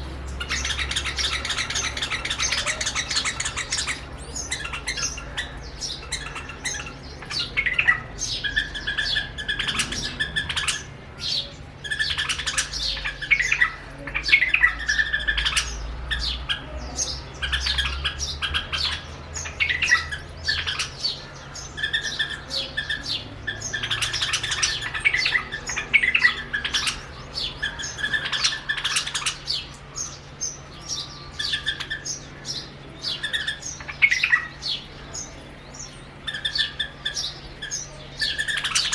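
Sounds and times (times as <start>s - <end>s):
bulbuls singing: 0.0s - 38.9s.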